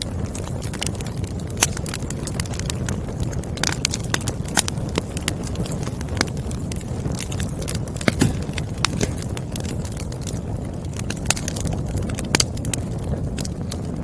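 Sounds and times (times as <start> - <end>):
firewood popping and crackling: 0.0 - 14.0
wood fire rumbling: 0.0 - 14.0.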